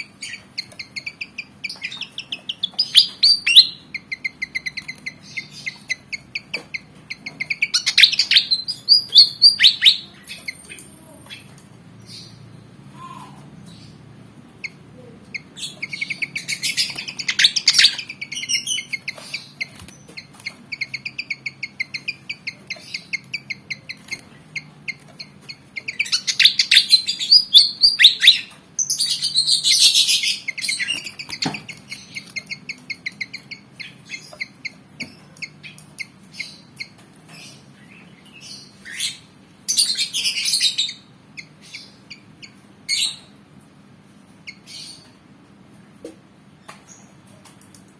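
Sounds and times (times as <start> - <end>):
bird singing and chattering: 0.0 - 12.5, 13.6 - 43.4.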